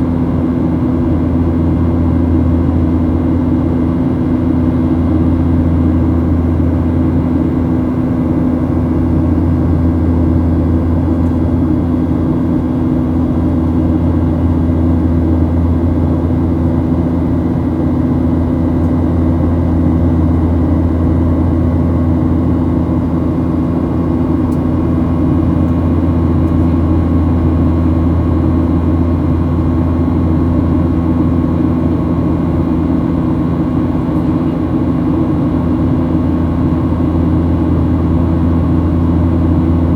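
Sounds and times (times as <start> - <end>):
jet engines droning in flight: 0.0 - 39.9.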